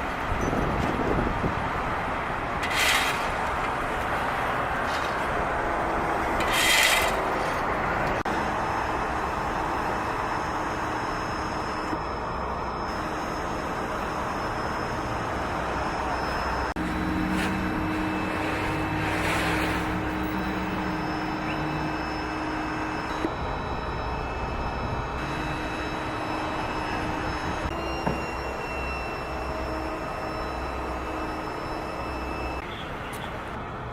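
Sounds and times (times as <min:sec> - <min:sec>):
road traffic noise: 0:00.0 - 0:33.9.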